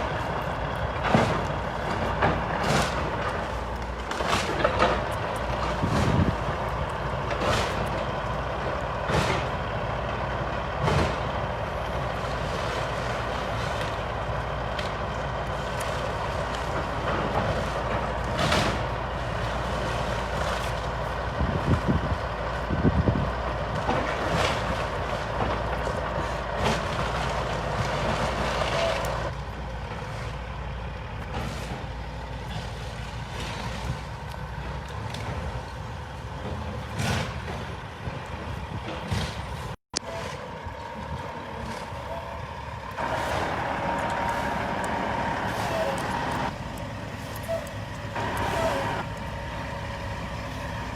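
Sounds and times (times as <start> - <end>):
heavy machinery running: 0.0 - 50.9.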